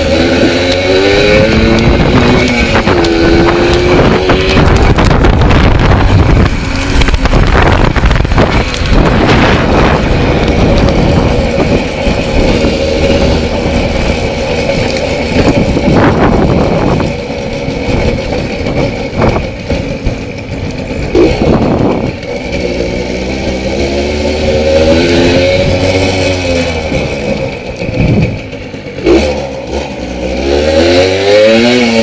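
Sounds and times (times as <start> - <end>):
moped engine running: 0.0 - 32.0.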